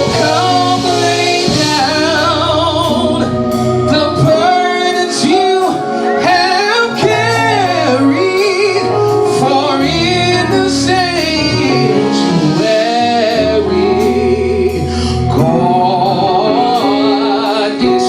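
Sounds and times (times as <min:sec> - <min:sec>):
gospel worship singing: 0:00.0 - 0:18.0
instrumental accompaniment: 0:00.0 - 0:18.0.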